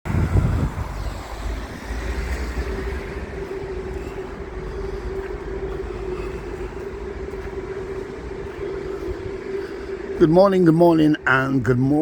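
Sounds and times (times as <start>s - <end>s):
wind rumbling on microphone: 0.0s - 12.0s
steady humming drone: 0.1s - 12.0s.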